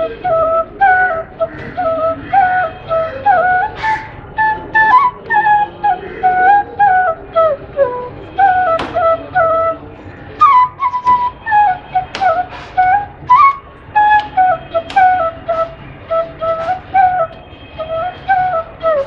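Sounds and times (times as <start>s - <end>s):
wooden flute melody: 0.0s - 19.0s.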